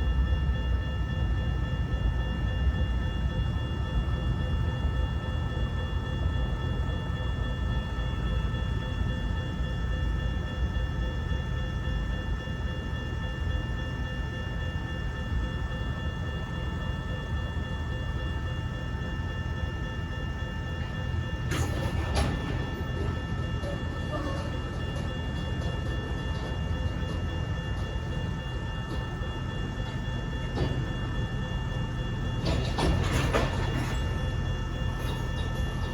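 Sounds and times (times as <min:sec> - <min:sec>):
freight train rumbling: 0:00.0 - 0:35.9.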